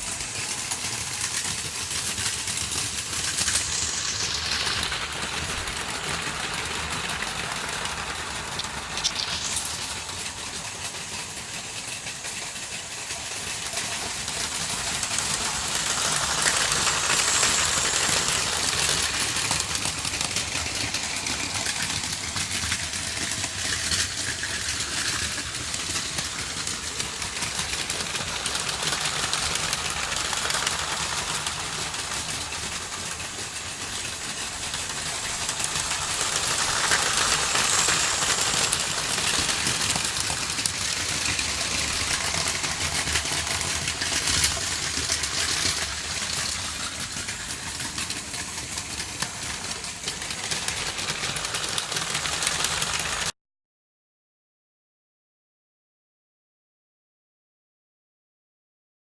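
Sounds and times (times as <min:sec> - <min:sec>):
toy train motors whirring: 0:00.0 - 0:53.3
toy train wheels clattering: 0:00.0 - 0:53.3.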